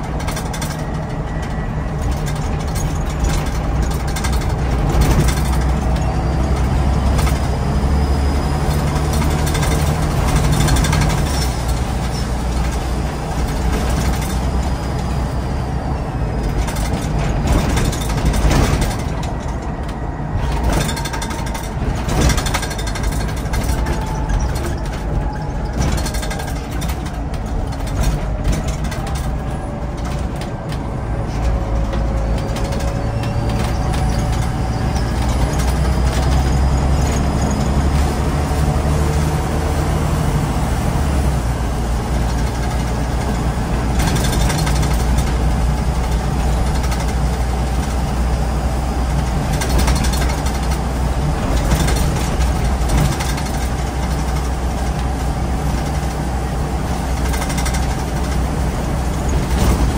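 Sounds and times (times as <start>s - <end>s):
clicks and rattles: 0.0s - 7.5s, 8.9s - 14.6s, 16.4s - 37.8s, 42.2s - 48.1s, 49.1s - 56.2s, 56.9s - 59.9s
bus diesel engine running: 0.0s - 59.9s.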